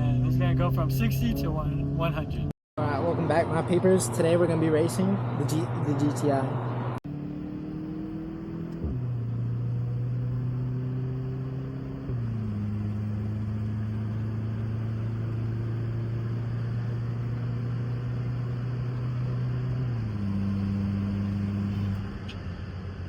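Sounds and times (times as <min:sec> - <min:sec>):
car engine accelerating hard: 0:00.0 - 0:22.8.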